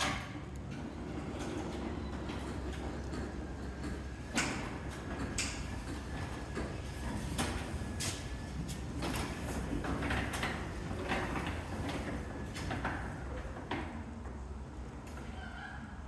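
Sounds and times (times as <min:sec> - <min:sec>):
garage door rumbling: 0:00.0 - 0:16.0.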